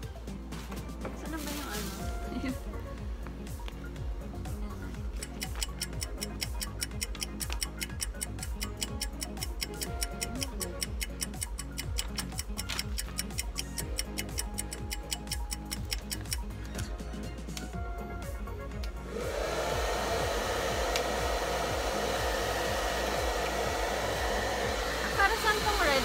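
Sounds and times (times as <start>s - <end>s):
music with fast ticking beat: 2.3s - 19.1s, 21.2s - 26.0s.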